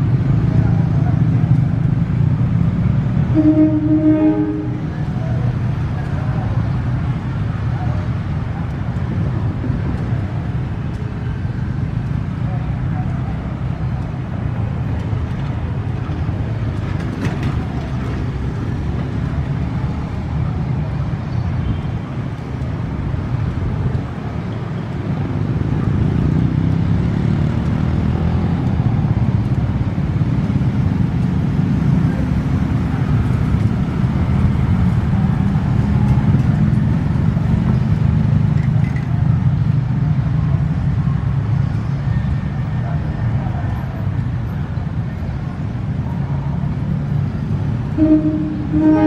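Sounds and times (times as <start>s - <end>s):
locomotive engine droning: 0.0s - 49.0s.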